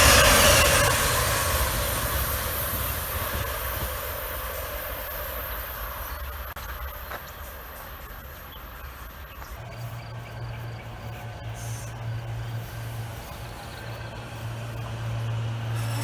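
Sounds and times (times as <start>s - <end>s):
train rolling past: 0.0s - 16.0s.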